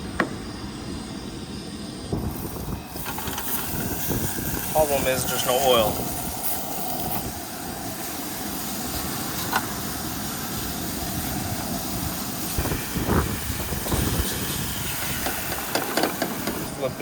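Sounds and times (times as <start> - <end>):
meat sizzling in a pan: 2.3 - 16.7.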